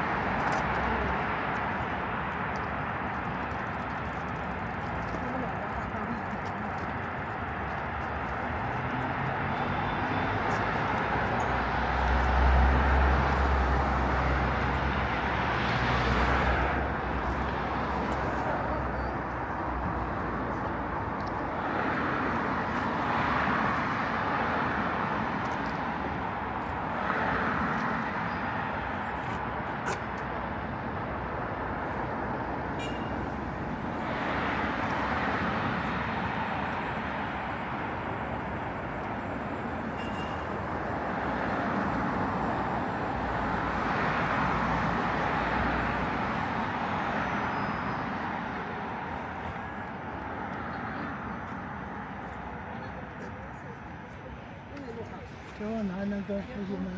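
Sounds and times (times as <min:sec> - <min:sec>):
traffic road noise: 0:00.0 - 0:56.9.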